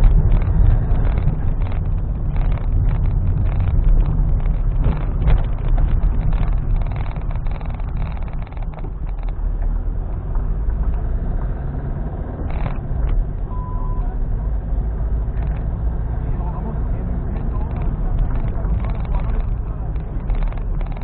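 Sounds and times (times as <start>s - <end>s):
small rattles and knocks: 0.0s - 11.8s, 12.4s - 13.4s, 14.8s - 21.0s
car engine and road rumble: 0.0s - 21.0s.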